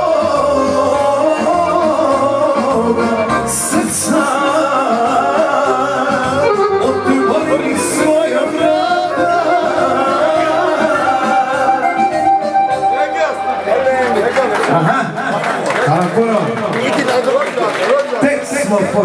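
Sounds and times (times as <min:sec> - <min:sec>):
band music with singing: 0:00.0 - 0:15.4.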